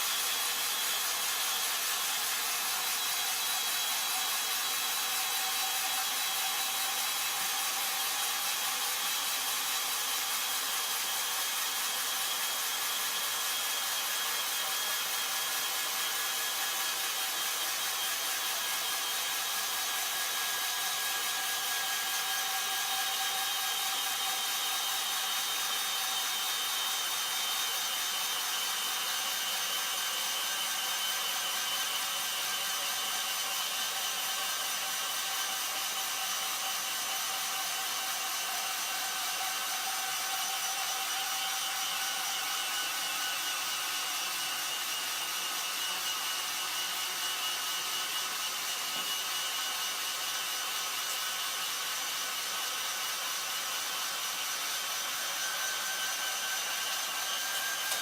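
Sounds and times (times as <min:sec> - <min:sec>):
cordless drill motor whining: 0:00.0 - 0:58.0.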